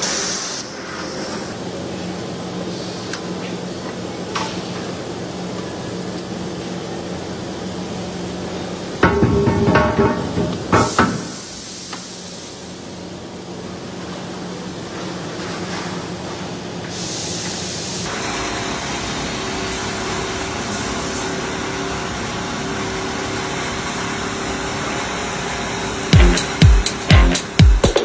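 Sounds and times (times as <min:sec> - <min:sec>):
machinery hum and hiss: 0:00.0 - 0:28.0.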